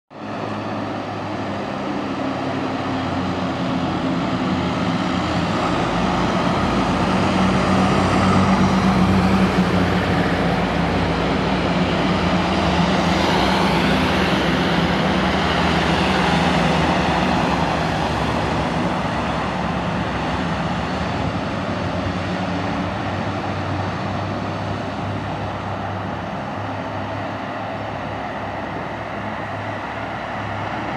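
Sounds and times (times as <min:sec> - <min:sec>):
fire engines driving past: 0:00.1 - 0:30.9.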